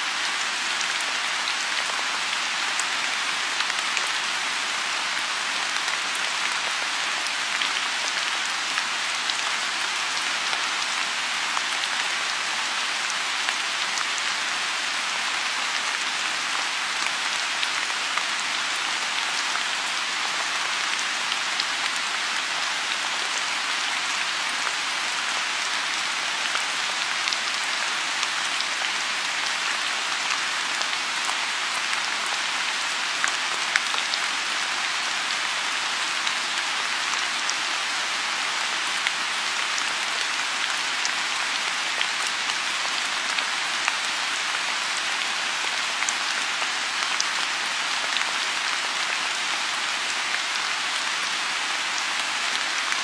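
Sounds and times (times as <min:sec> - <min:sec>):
rain falling on a pond: 0:00.0 - 0:53.0.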